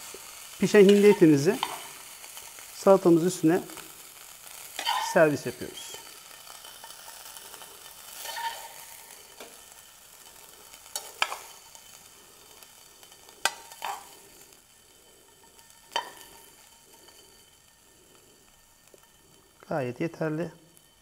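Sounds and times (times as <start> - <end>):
faint sizzle: 0.0 - 21.0
tongs scraping frying pan: 0.0 - 21.0.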